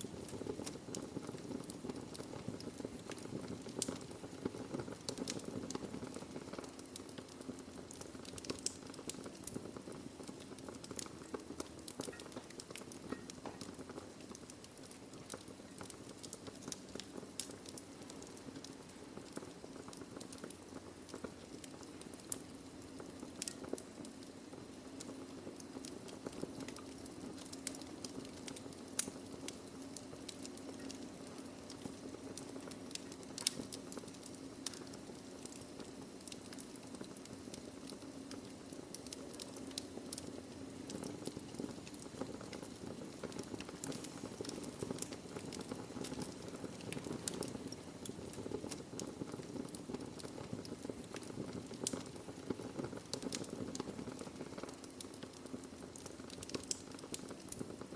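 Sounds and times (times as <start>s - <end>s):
low rush of flame: 0.0s - 57.9s
wood fire crackling and popping: 0.0s - 57.9s.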